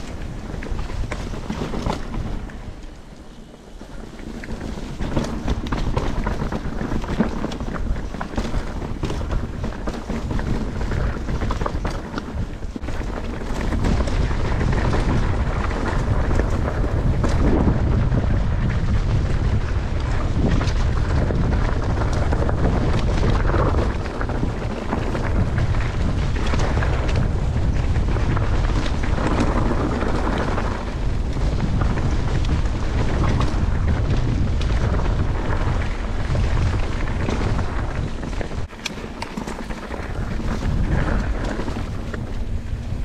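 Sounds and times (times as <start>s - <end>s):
bike clicks and rattles: 0.0s - 43.0s
mountain bike rolling: 0.0s - 43.0s
wind buffeting microphone: 0.0s - 43.0s.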